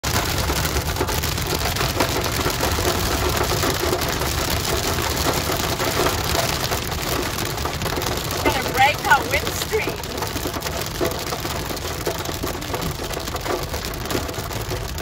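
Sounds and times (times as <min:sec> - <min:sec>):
car road noise: 0:00.0 - 0:15.0
hail and rain on car roof: 0:00.0 - 0:15.0.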